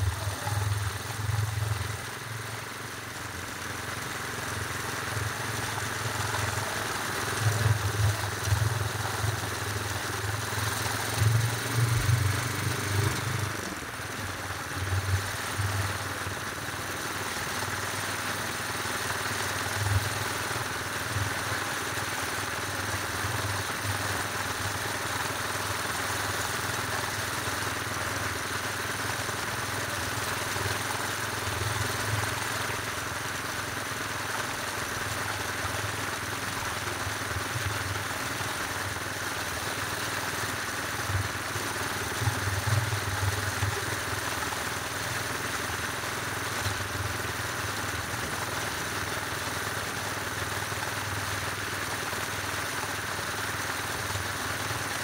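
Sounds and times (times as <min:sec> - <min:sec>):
motorcycle running: 0:00.0 - 0:55.0.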